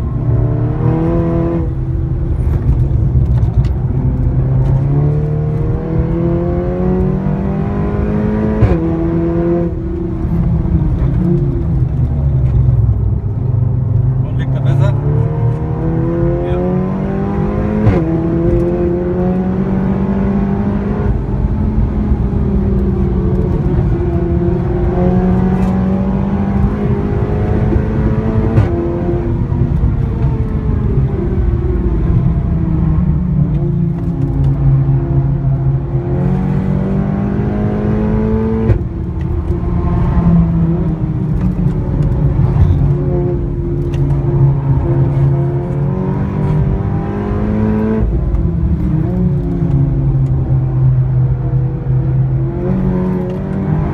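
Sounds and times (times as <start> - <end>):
car engine and loud exhaust: 0.0 - 53.9.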